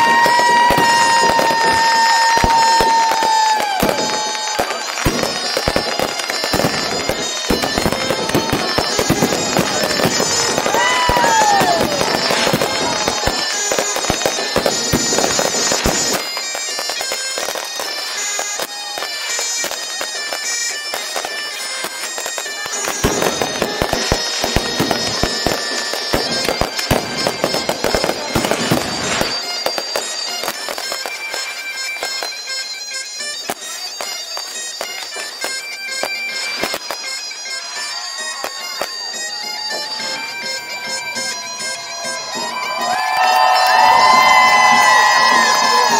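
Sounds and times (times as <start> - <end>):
fireworks banging and crackling: 0.0 - 45.9
rising firework whistles: 0.0 - 45.9.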